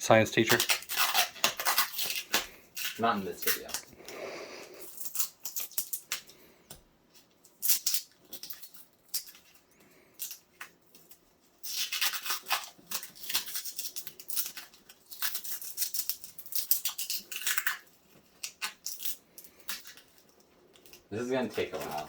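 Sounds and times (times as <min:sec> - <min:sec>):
packaging crackling and rustling: 0:00.4 - 0:03.9, 0:07.1 - 0:22.0.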